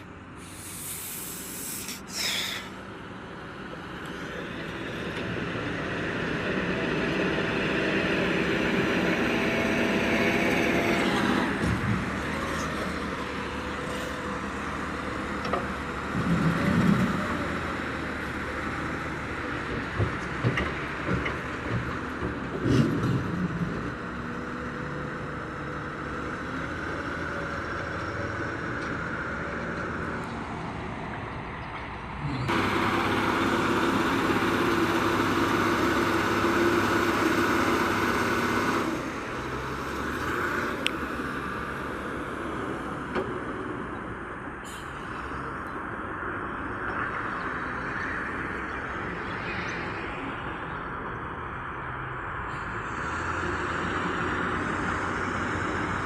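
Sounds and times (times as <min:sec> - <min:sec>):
heavy machinery engine running: 0:00.0 - 0:31.4, 0:32.3 - 0:50.0.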